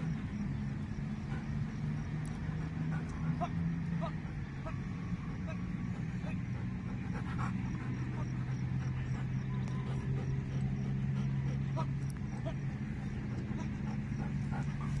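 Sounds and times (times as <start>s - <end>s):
dog panting: 0.0s - 15.0s
steady low hum: 0.0s - 15.0s.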